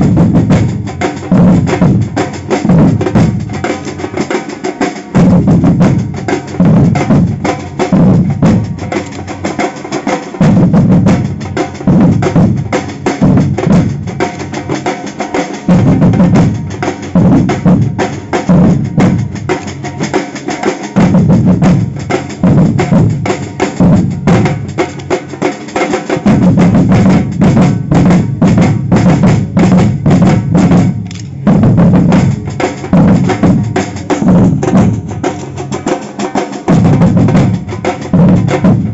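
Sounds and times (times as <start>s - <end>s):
bass drums pounding: 0.0s - 4.2s, 5.1s - 9.6s, 10.4s - 14.8s, 15.6s - 20.1s, 20.9s - 25.1s, 26.1s - 36.0s, 36.6s - 38.9s
fast snare drum strokes: 0.0s - 38.9s
samba drum group playing: 0.0s - 38.9s.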